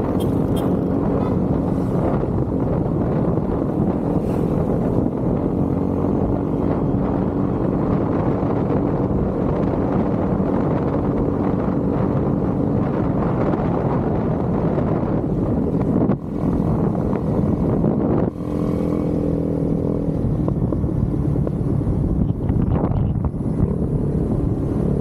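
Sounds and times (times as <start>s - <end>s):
motorcycle engine cruising: 0.0s - 25.0s
wind rush on microphone: 0.0s - 25.0s.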